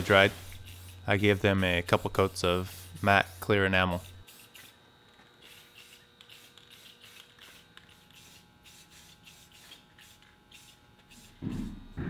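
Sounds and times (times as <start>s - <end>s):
aerosol spray can hissing: 0.4s - 4.7s, 5.4s - 11.8s.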